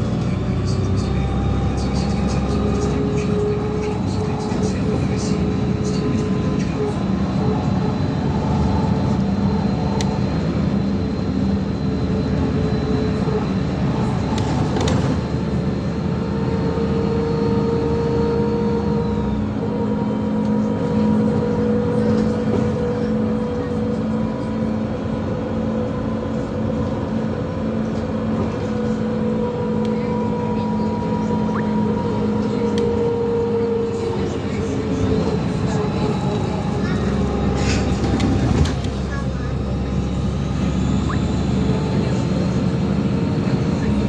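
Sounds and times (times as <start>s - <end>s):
bus engine humming: 0.0s - 44.0s
road and tyre noise: 0.0s - 44.0s.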